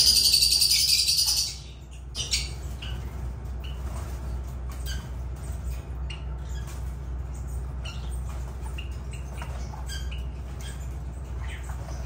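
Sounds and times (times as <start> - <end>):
lovebirds chirping and squeaking: 0.0 - 12.0
steady low hum: 0.0 - 12.0.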